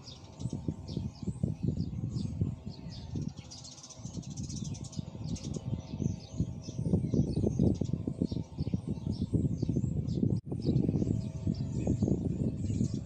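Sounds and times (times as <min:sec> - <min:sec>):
low rumbling noise: 0:00.0 - 0:13.0
small birds chirping: 0:00.0 - 0:13.0.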